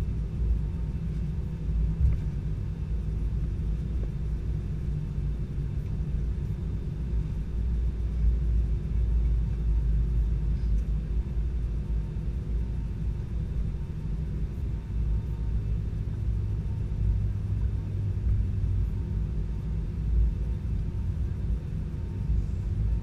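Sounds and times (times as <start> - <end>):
aircraft cabin engine rumble: 0.0 - 23.0.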